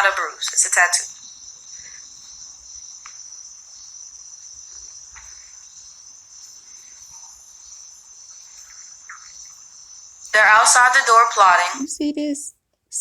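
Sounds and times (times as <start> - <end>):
high-pitched insect chorus: 0.0 - 11.9.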